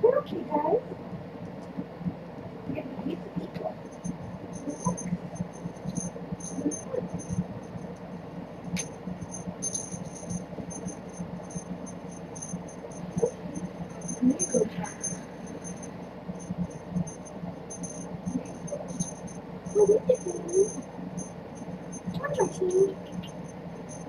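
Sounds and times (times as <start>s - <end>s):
low electrical hum: 0.0s - 24.0s
faint high-pitched ticking: 3.5s - 8.1s, 8.7s - 24.0s.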